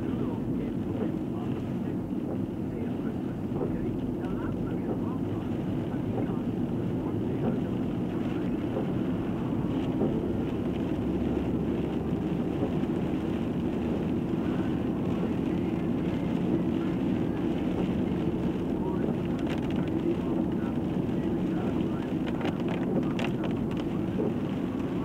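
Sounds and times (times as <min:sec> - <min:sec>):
car engine droning: 0:00.0 - 0:25.0
tyres on wet road: 0:00.0 - 0:25.0.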